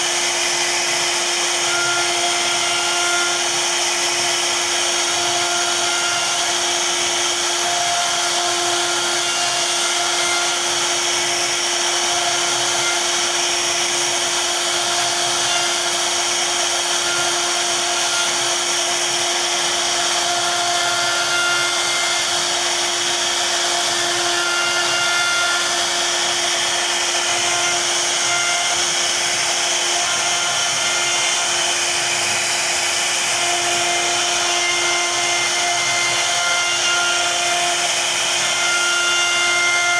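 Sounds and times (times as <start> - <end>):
bit cutting wood: 0.0 - 39.9
router spindle whine: 0.0 - 39.9.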